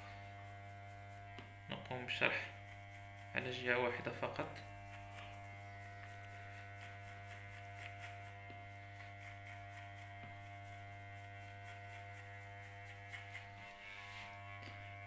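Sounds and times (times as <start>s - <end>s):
electric hair clipper humming: 0.0s - 15.0s.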